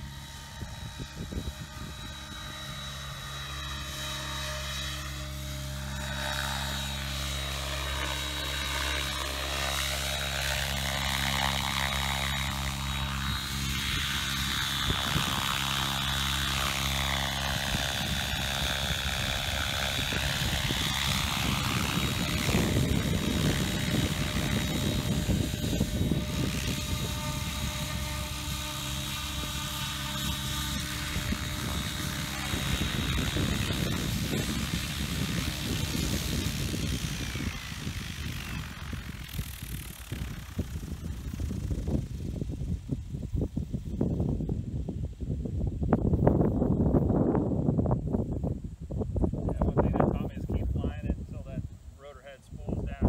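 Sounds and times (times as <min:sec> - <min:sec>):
electric motor whine: 0:00.0 - 0:44.9
helicopter rotor blade noise: 0:00.0 - 0:53.0.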